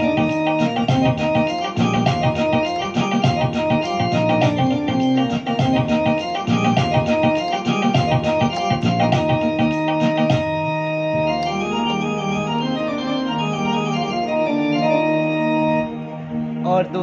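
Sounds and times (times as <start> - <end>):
electronic keyboard organ melody: 0.0 - 17.0.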